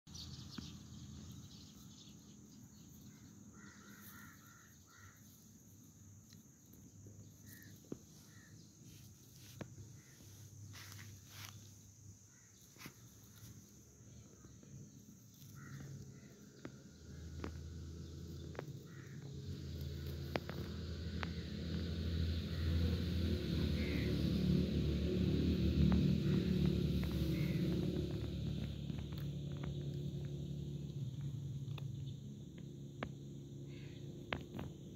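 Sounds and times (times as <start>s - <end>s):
distant birds calling: 0.2s - 34.9s
low steady hum: 0.2s - 34.9s.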